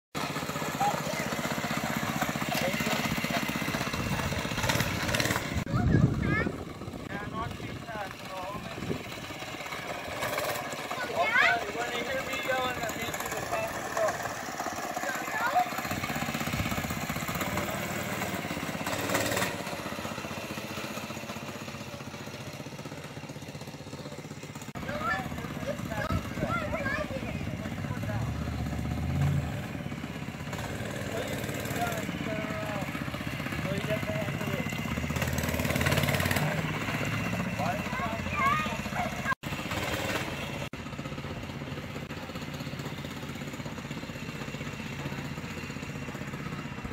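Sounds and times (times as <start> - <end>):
mini bike engine running: 0.2 - 46.9.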